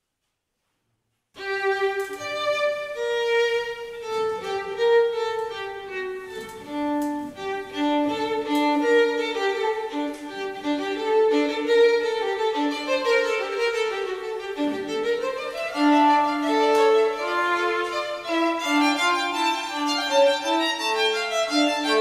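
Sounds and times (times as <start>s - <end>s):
violin-led background music: 1.4s - 22.0s.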